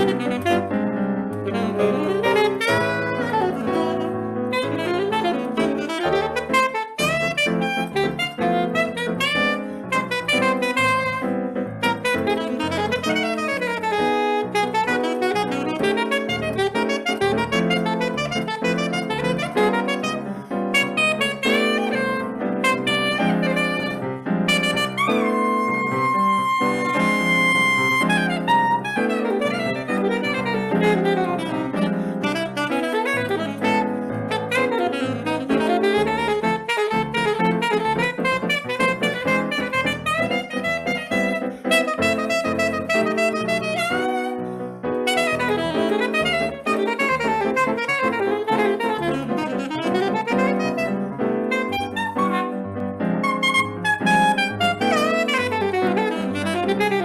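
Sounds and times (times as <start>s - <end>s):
saxophone melody: 0.0s - 57.0s.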